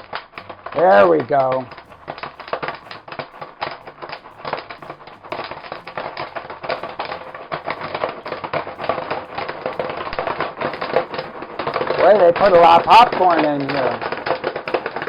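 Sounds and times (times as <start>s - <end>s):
popcorn popping: 0.0s - 15.0s.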